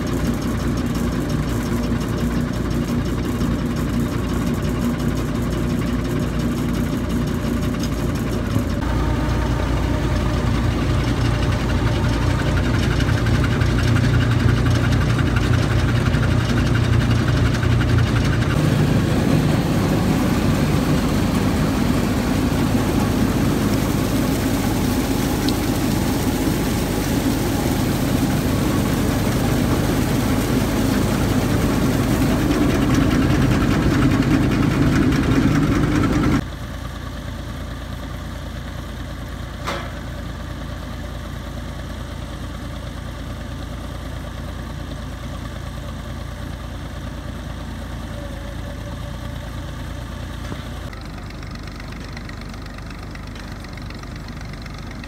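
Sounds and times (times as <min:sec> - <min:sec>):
boring rig engine and machinery: 0:00.0 - 0:55.0.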